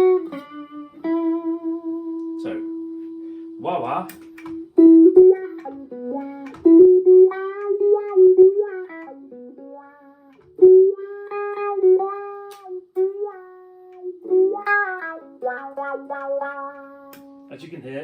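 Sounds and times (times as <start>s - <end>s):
electric guitar with wah pedal: 0.0s - 17.5s.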